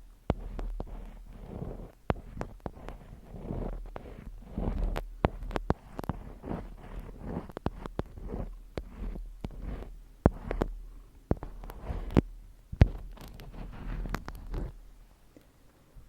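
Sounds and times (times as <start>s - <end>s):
low steady hum: 0.0s - 16.0s
soft rustling: 0.0s - 16.0s
sharp taps and clicks: 0.3s - 14.7s.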